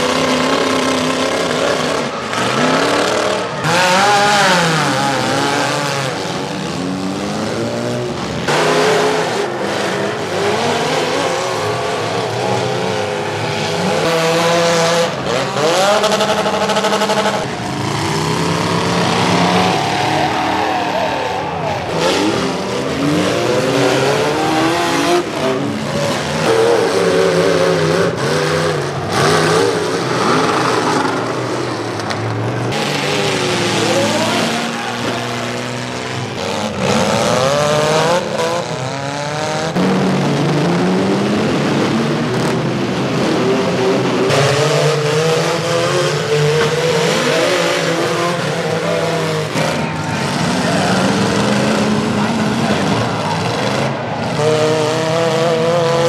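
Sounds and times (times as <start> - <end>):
car engines revving hard: 0.0 - 56.0
cars crashing: 0.0 - 56.0.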